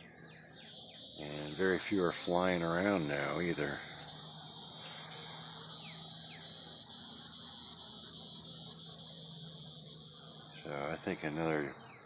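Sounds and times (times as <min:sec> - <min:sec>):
air conditioner hum: 0:00.0 - 0:12.0
insects trilling: 0:00.0 - 0:12.0.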